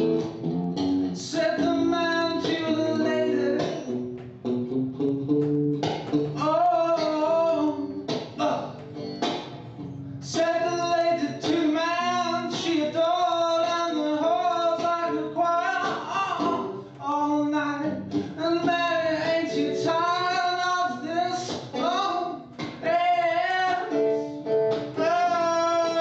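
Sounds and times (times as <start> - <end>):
acoustic guitar accompaniment: 0.0 - 26.0
person singing: 1.2 - 4.0, 6.3 - 8.8, 10.2 - 26.0.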